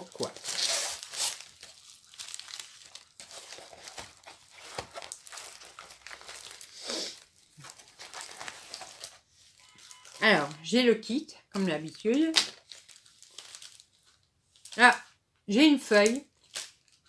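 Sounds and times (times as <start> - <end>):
plastic packaging crinkling: 0.0 - 10.7, 11.6 - 15.2, 15.9 - 17.0.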